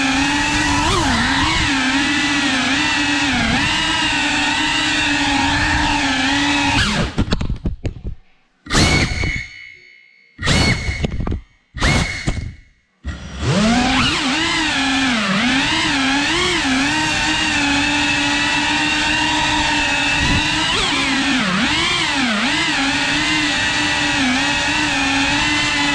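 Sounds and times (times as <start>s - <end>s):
drone motors whining: 0.0s - 7.2s, 8.7s - 25.9s.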